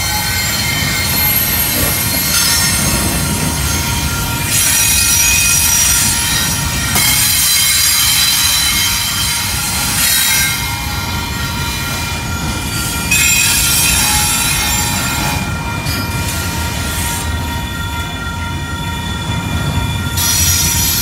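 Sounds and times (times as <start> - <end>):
freight train rumble: 0.0 - 21.0
train wheels squealing on rails: 0.0 - 21.0.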